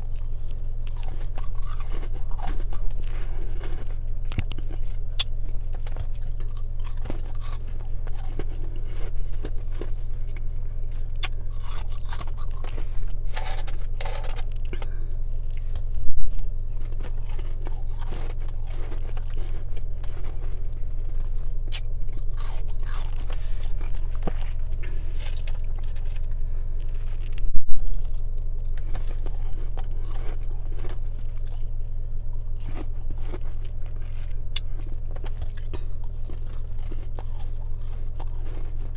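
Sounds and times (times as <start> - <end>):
crunching and chewing frost: 0.0 - 38.9
steady low hum: 0.0 - 38.9.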